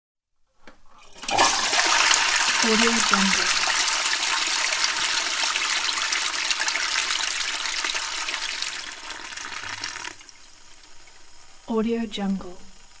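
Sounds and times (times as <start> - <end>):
toilet flushing: 0.9 - 11.4.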